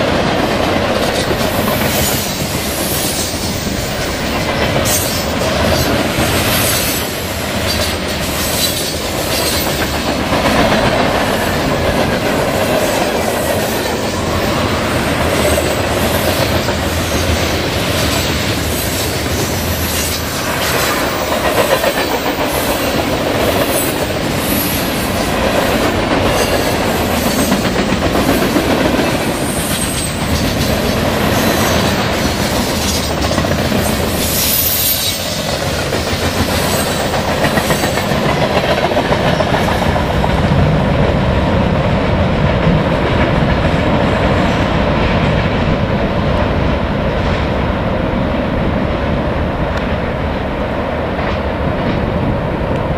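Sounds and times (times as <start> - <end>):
wheels clacking over rail joints: 0.0 - 46.7
steel wheels rumbling on rail: 0.0 - 52.9.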